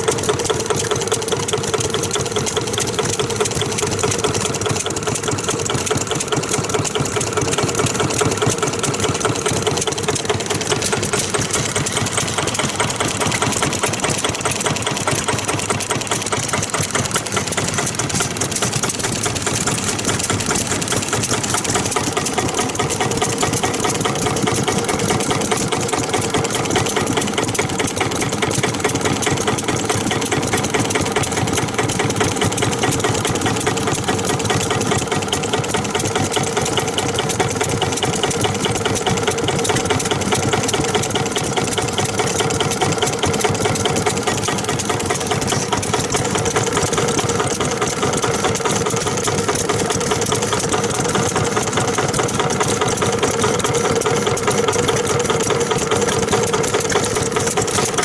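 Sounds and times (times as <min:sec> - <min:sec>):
diesel engine running: 0:00.0 - 0:53.3.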